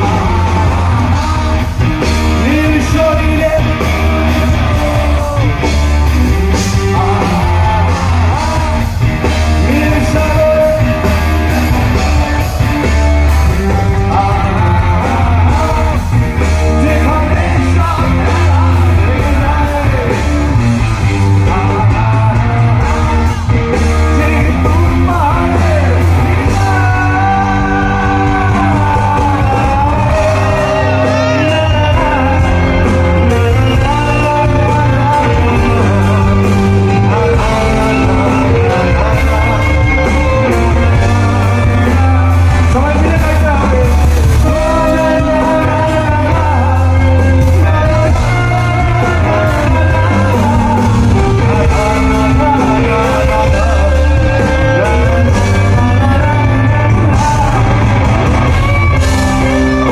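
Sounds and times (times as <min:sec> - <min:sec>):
lead vocalist singing: 0:00.0 - 0:59.9
rock band playing: 0:00.0 - 0:59.9.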